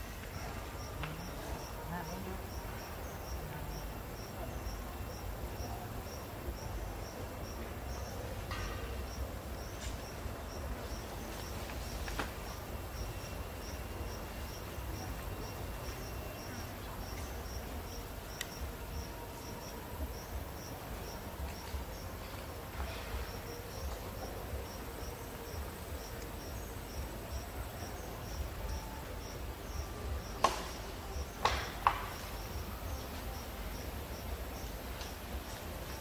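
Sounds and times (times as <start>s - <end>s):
insect chirping: 0.0s - 36.0s.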